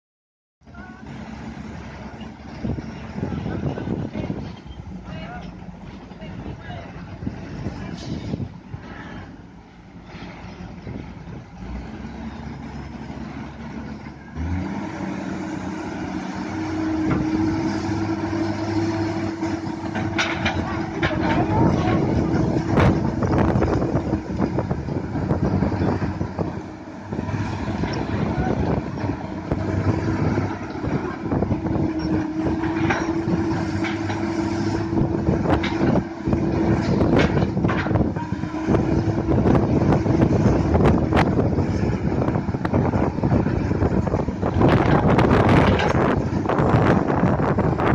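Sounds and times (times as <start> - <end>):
excavator diesel engine running: 0.6 - 47.9.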